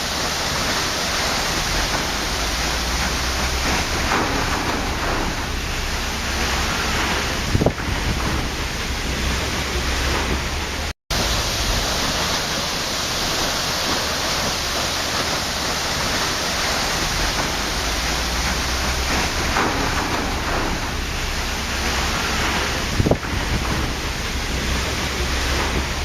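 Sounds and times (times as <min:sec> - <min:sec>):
water splash: 0:00.0 - 0:26.0
waterfall rushing: 0:00.0 - 0:26.0.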